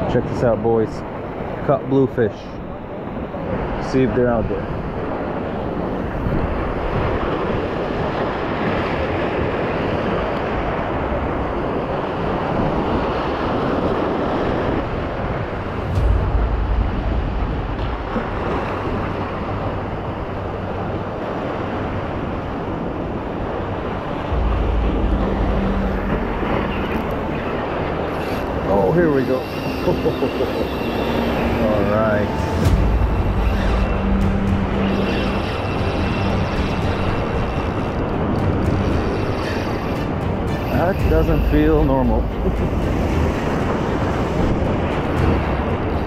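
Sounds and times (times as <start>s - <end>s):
ocean waves washing: 0.0s - 46.0s
wind buffeting microphone: 0.0s - 46.0s.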